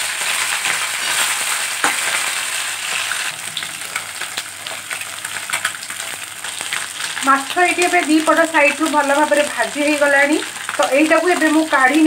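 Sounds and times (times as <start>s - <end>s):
fish frying in oil: 0.0s - 12.0s.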